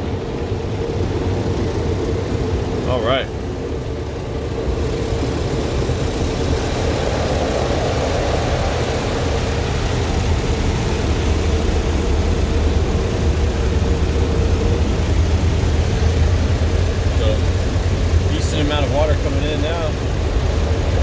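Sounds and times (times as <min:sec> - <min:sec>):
car wash water rushing: 0:00.0 - 0:21.0
low rumble: 0:00.0 - 0:21.0.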